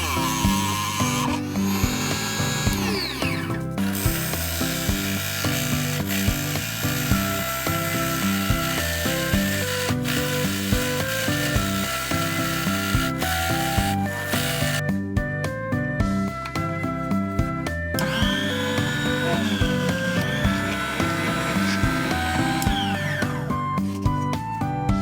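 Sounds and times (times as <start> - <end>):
drill press boring into wood: 0.0 - 14.8, 18.0 - 23.7
background music with steady beat: 0.0 - 25.0.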